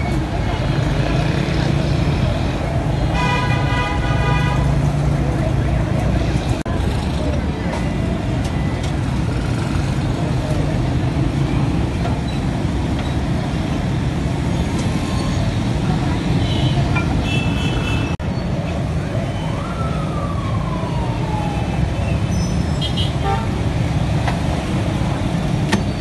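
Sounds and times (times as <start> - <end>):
rumble of traffic engines: 0.0 - 26.0.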